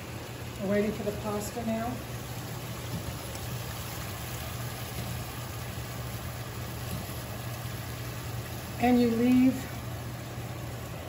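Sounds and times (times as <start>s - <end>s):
low steady hum: 0.0s - 11.0s
pot of water boiling: 0.0s - 11.0s
skillet simmering: 0.0s - 11.0s.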